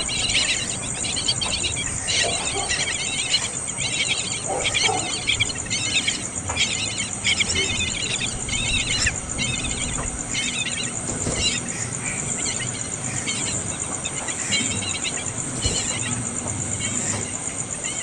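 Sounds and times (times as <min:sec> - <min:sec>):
small birds twittering: 0:00.0 - 0:18.0
steady high buzz: 0:00.0 - 0:18.0.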